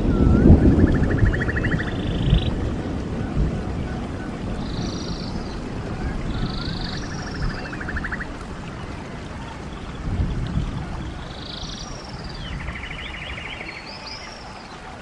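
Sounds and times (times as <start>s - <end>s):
stream running water: 0.0s - 15.0s.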